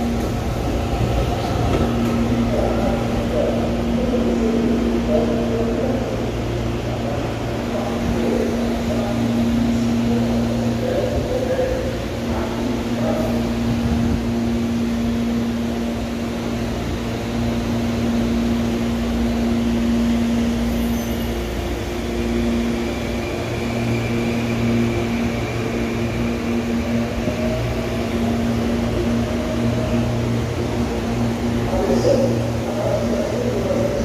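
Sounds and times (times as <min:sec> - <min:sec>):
electric train humming: 0:00.0 - 0:34.0.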